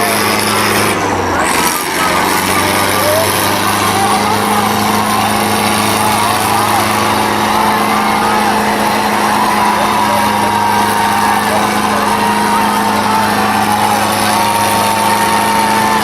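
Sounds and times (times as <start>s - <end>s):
diesel tractor engines droning: 0.0s - 16.0s.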